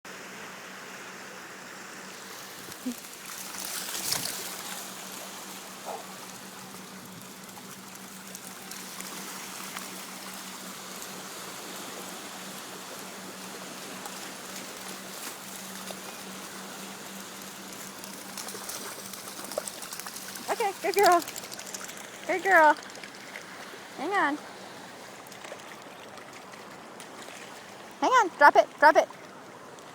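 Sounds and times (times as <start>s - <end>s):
water washing and trickling: 2.2s - 28.0s.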